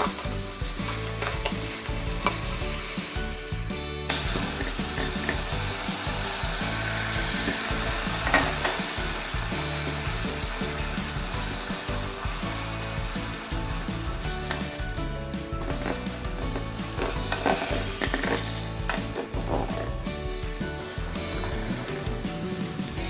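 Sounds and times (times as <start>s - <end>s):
meat sizzling in sauce: 0.0s - 23.0s.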